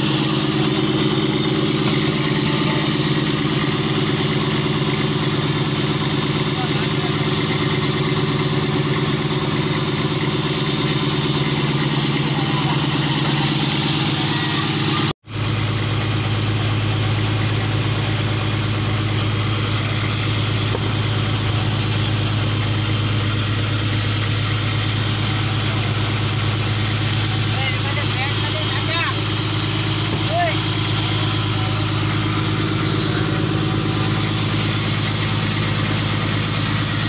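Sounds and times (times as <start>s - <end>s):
boat engine humming: 0.0s - 37.0s.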